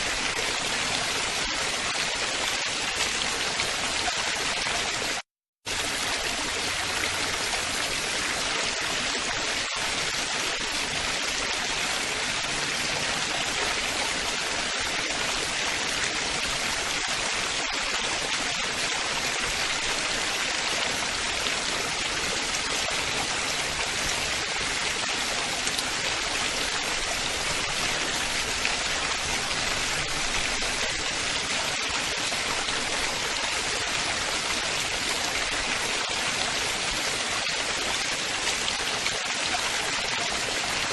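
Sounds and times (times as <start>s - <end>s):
running water splashing: 0.0s - 40.9s.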